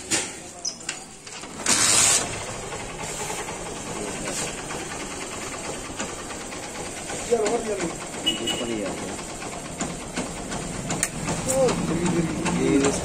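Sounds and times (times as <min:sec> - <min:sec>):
small engine idling with ticking: 0:01.2 - 0:13.0.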